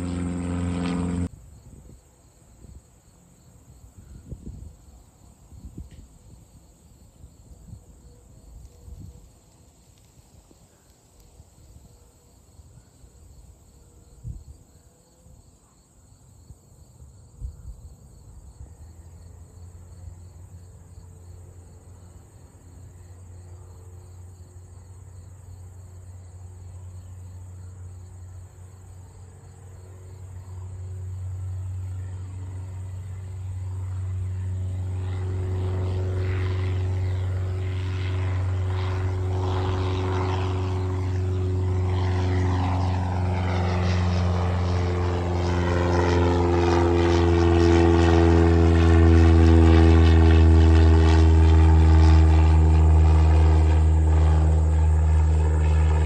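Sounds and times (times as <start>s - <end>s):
small plane engine drone: 0.0s - 56.0s
insects chirping: 1.4s - 56.0s.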